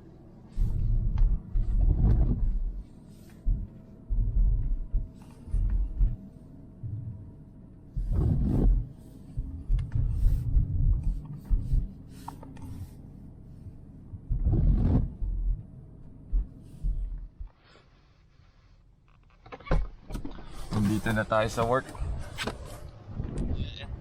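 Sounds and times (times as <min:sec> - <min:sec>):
car driving on snow: 0:00.0 - 0:18.8, 0:20.3 - 0:24.0.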